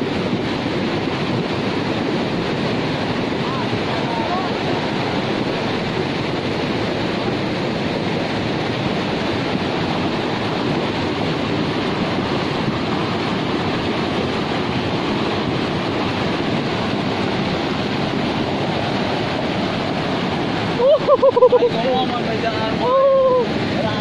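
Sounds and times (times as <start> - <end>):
river floodwater rushing: 0.0 - 24.0.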